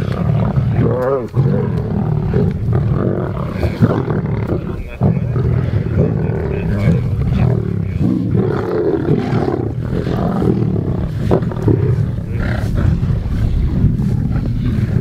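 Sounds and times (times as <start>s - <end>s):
lions growling: 0.0s - 15.0s.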